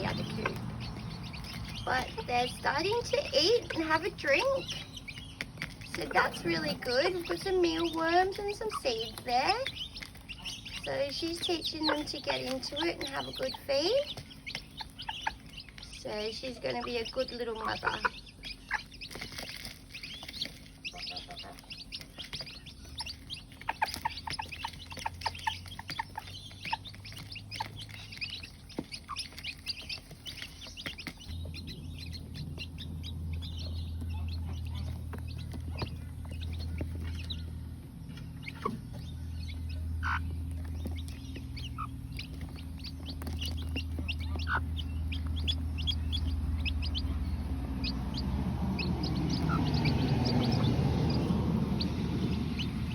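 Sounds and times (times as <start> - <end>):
chicks peeping: 0.0 - 52.9
hen clucking: 0.0 - 52.9
low steady hum: 0.0 - 52.9.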